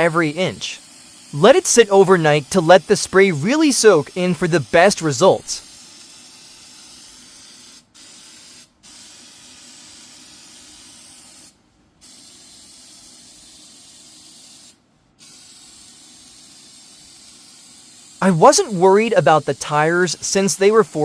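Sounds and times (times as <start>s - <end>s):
spray hissing: 0.0s - 11.5s, 12.1s - 21.0s.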